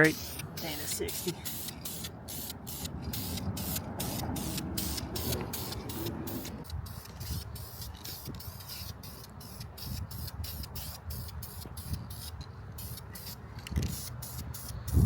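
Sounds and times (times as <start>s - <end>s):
aerosol spray can hissing: 0.0s - 15.0s.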